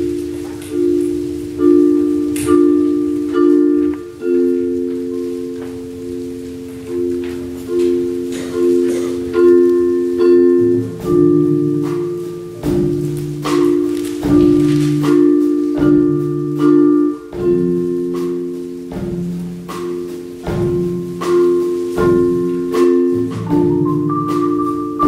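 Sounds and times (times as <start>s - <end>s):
struck percussion chords: 0.0s - 25.0s.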